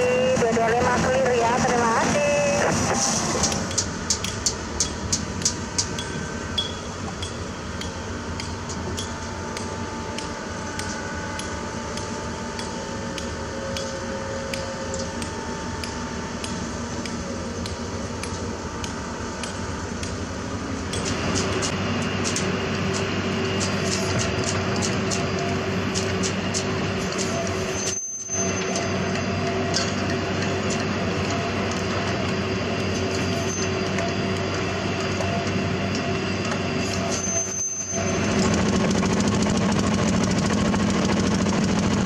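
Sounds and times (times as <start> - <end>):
heavy machinery droning: 0.0 - 42.0.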